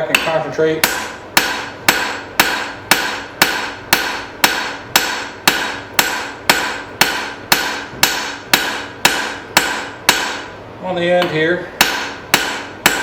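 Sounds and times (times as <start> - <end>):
hammer striking steel on anvil: 0.0 - 10.5, 11.2 - 13.0.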